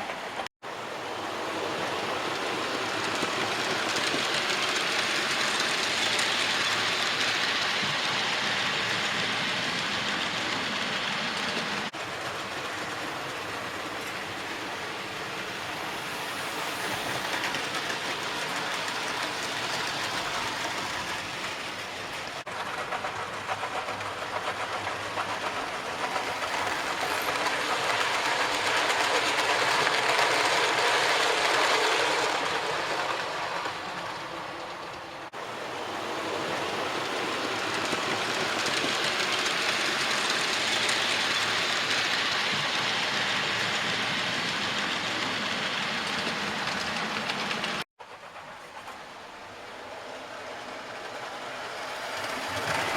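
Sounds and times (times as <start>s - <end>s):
model train wheels rumbling on rails: 0.0s - 52.9s.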